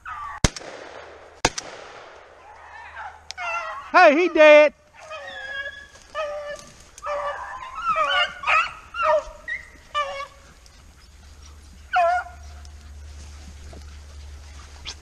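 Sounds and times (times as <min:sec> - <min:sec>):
dogs yelping and baying: 0:02.4 - 0:15.0.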